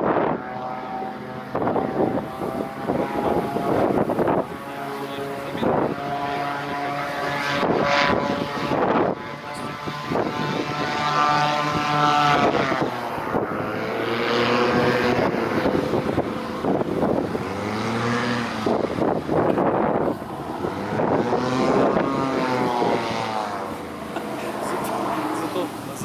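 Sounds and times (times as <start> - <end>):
hovercraft engine drone: 0.0 - 26.0.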